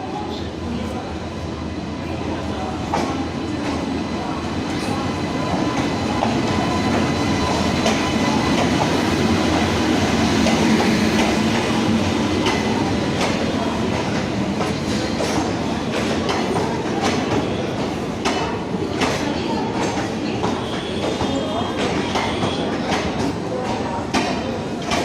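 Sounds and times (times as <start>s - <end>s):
train coaches rumbling: 0.0s - 25.0s.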